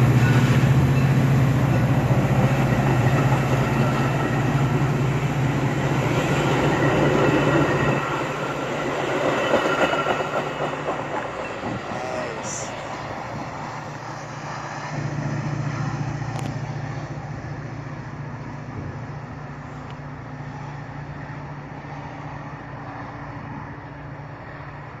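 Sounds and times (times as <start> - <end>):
train pulling away: 0.0 - 21.9.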